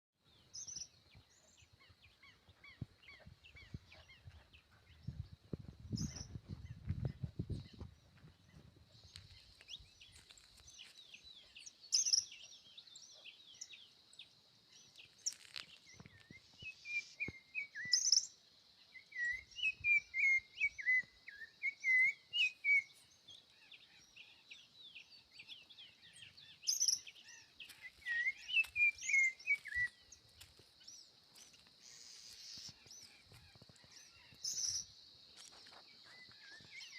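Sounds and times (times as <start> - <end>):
birds chirping and singing: 0.3 - 36.9.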